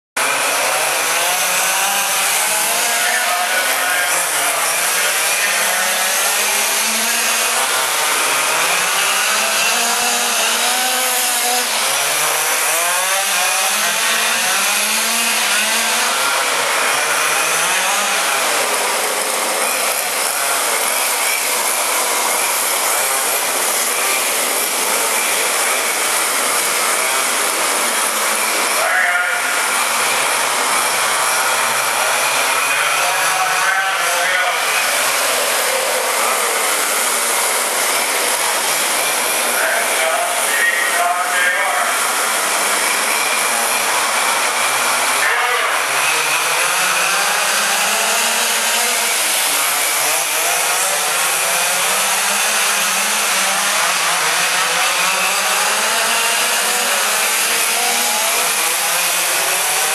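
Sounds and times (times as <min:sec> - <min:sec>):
small two-stroke engines buzzing: 0:00.2 - 0:59.9.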